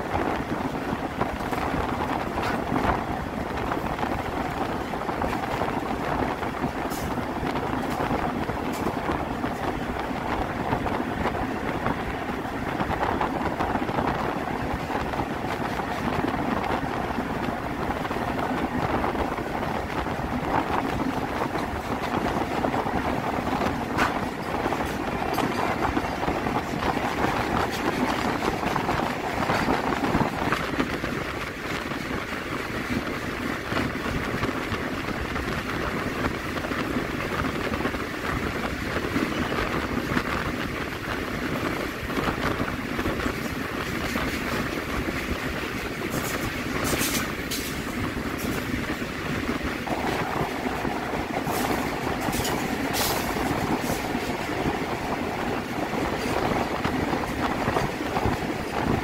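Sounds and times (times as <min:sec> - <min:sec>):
locomotives running: 0:00.0 - 0:59.0
wheels clicking on rails: 0:00.0 - 0:59.0.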